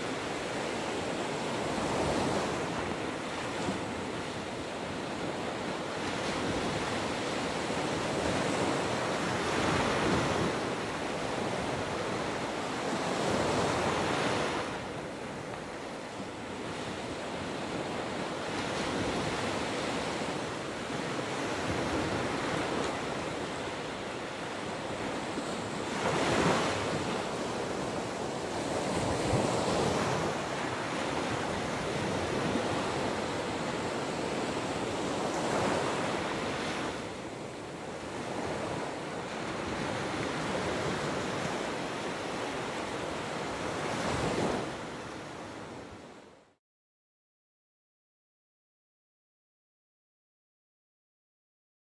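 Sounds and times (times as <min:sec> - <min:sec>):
waves crashing: 0:00.0 - 0:46.5
surf washing on beach: 0:00.0 - 0:46.6.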